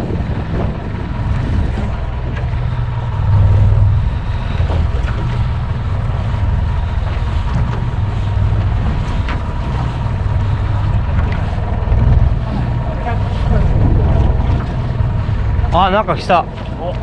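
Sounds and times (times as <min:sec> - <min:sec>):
boat engine rumbling: 0:00.0 - 0:17.0
wind buffeting microphone: 0:00.0 - 0:17.0.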